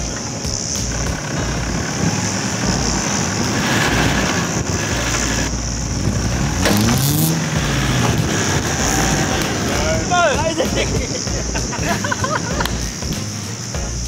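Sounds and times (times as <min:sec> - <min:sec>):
engine revving up: 0:00.0 - 0:13.2
engines running under load: 0:00.0 - 0:14.0.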